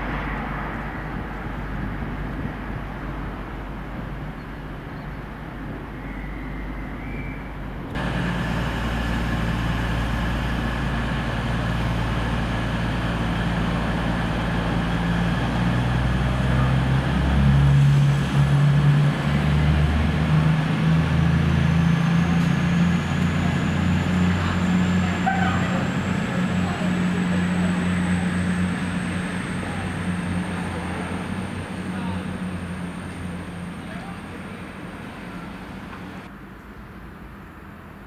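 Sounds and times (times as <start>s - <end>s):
diesel train engine rumble: 0.0s - 38.0s.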